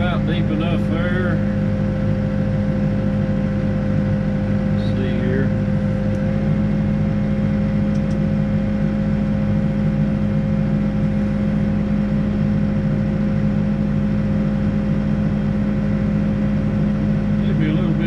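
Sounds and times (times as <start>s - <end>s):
diesel engine humming: 0.0s - 18.0s.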